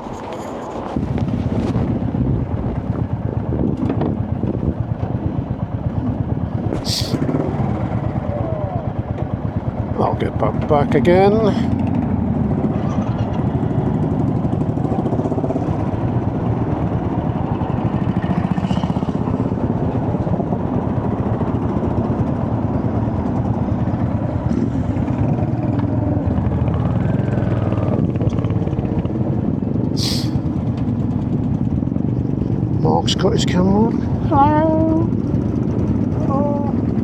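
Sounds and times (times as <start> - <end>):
motorcycle engine running: 0.1 - 37.0.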